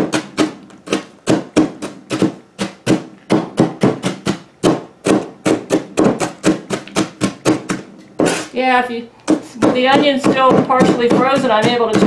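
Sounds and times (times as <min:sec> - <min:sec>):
knife chopping on wooden table: 0:00.0 - 0:08.5, 0:09.2 - 0:12.0.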